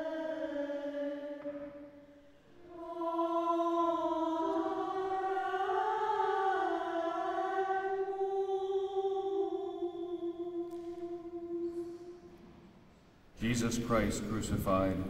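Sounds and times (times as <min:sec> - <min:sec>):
wordless choral singing: 0:00.0 - 0:15.0.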